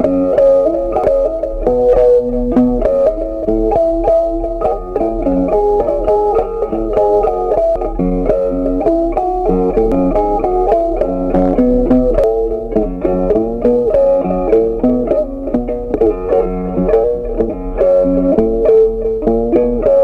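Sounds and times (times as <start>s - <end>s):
plucked guitar melody: 0.0s - 20.0s.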